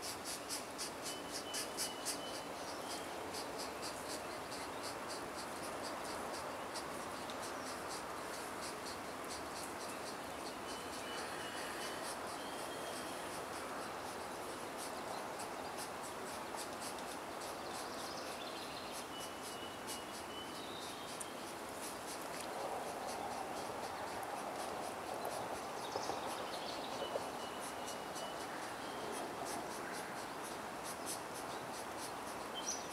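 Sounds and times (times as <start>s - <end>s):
steady hiss: 0.0s - 32.9s.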